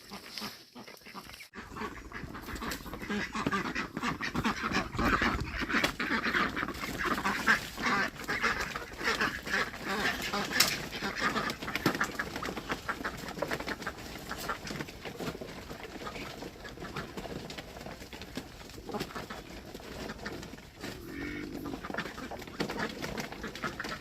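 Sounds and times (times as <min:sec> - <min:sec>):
ducks and geese calling: 0:00.0 - 0:24.0.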